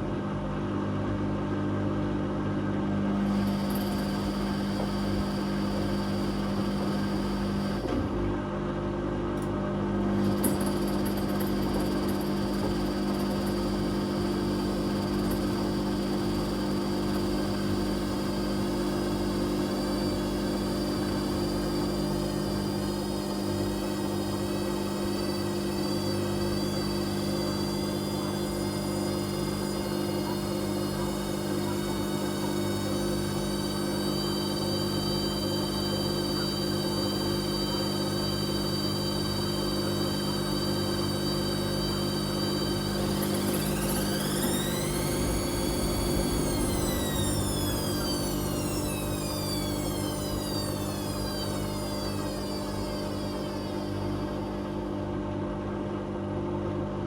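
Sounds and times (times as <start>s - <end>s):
washing machine running: 2.2s - 57.0s.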